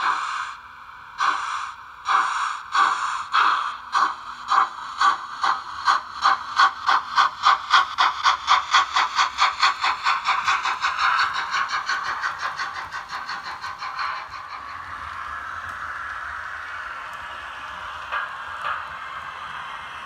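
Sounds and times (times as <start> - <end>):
steady steam hiss: 0.0 - 20.0
steam locomotive chuffing: 0.0 - 20.0.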